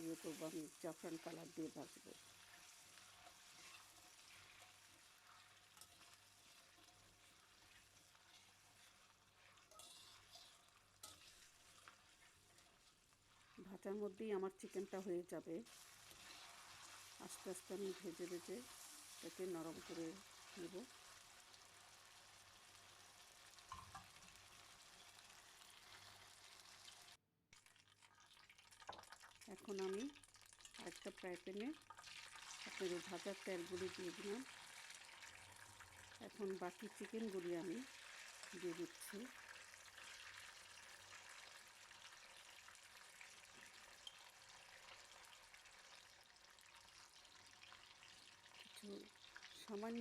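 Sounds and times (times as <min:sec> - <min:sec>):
chicken frying in hot oil: 0:00.0 - 0:50.0.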